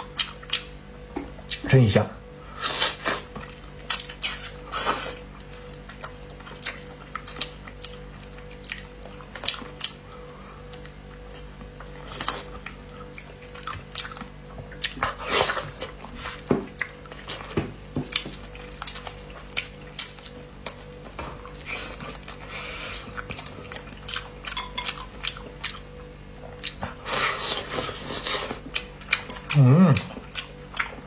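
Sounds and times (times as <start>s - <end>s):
chewing: 0.0s - 0.8s, 2.6s - 31.0s.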